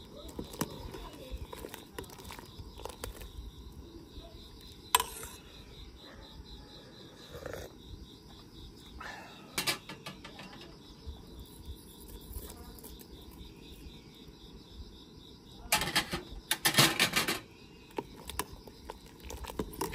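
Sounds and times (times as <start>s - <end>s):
crickets chirping: 0.0s - 19.9s.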